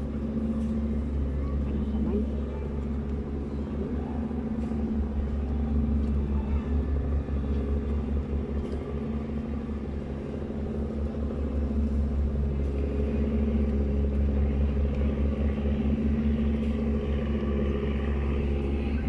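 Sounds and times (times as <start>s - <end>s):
city ambience rumble: 0.0s - 19.0s
droning engine-like hum: 0.0s - 19.0s.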